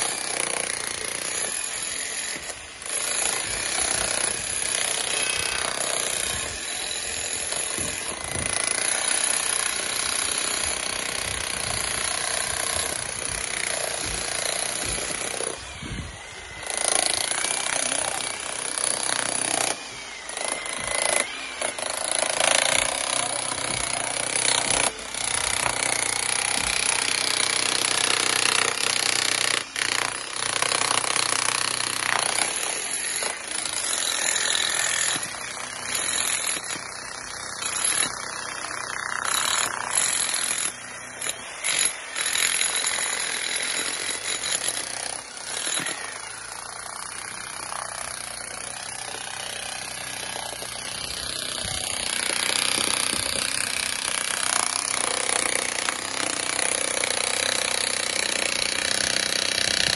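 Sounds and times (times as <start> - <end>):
demolition hammer chiselling concrete: 0.0 - 59.9.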